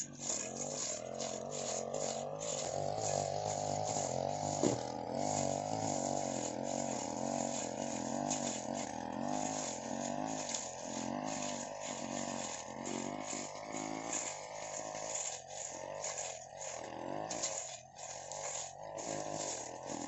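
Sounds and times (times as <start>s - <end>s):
brush cutter engine cutting grass: 0.0s - 20.0s.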